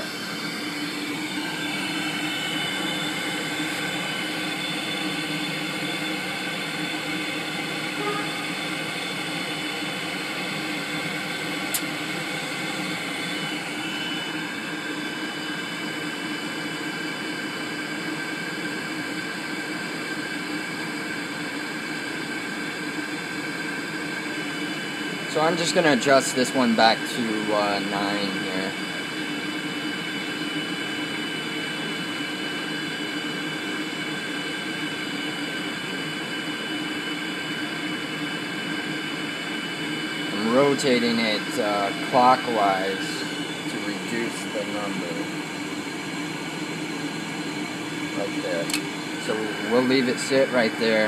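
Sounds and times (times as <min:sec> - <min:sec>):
blower and burner whirring: 0:00.0 - 0:51.0.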